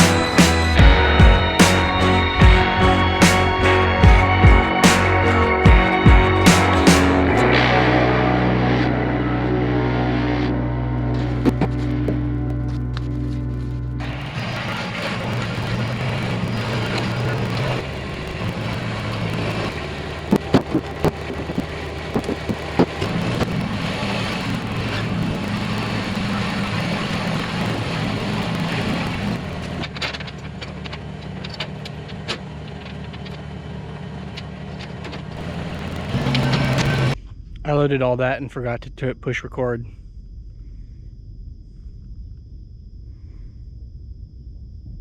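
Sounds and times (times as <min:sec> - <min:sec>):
heavy machine engine running: 0:00.0 - 0:37.2.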